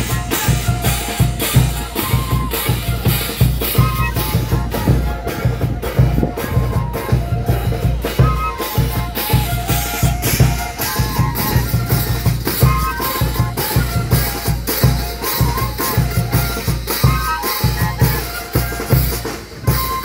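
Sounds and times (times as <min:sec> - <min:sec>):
bass drum beat: 0:00.0 - 0:16.4
cymbals: 0:00.0 - 0:20.0
flutes playing melody: 0:00.0 - 0:20.0
snare drums: 0:00.0 - 0:20.0.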